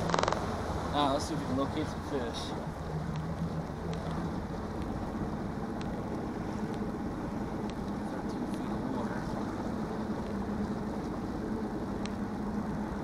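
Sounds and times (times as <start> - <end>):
boat motor running: 0.0 - 13.0
water rushing: 0.0 - 13.0
wind: 0.0 - 13.0.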